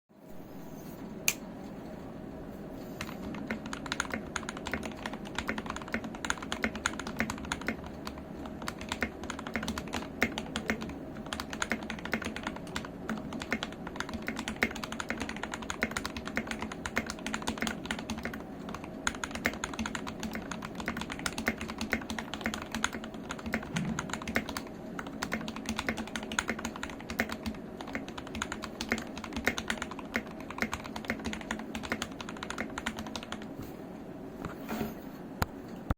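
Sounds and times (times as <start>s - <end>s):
fast typing on mechanical keyboard: 3.0s - 33.5s.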